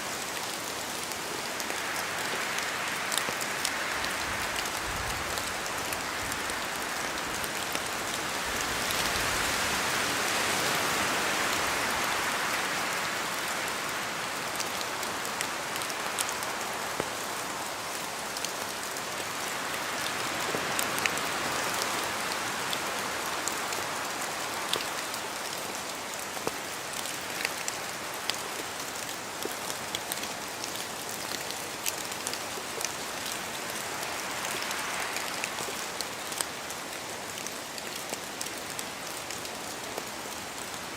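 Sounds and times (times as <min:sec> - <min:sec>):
rain falling through trees: 0:00.0 - 0:40.9
raindrops hitting close by: 0:00.0 - 0:40.9.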